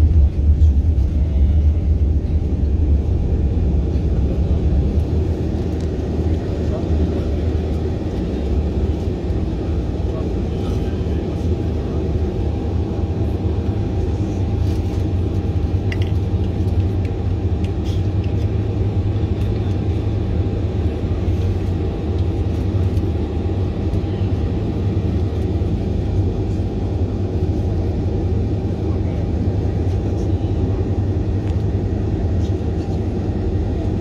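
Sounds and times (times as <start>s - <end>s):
jet airliner cabin rumble: 0.0s - 34.0s.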